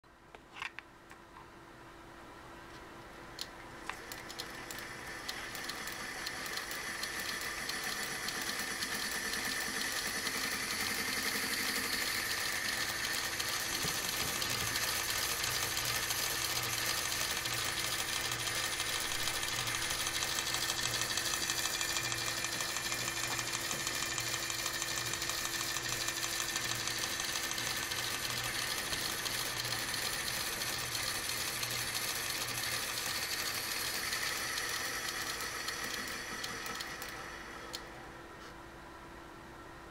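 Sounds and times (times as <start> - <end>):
phonograph motor whirring and rattling: 3.8 - 38.0.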